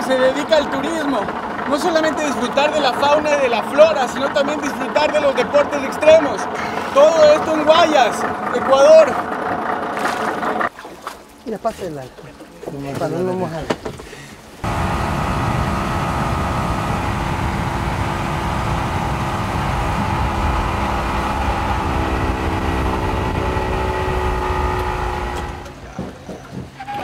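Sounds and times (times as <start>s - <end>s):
engine running: 0.0s - 10.7s, 14.6s - 26.7s.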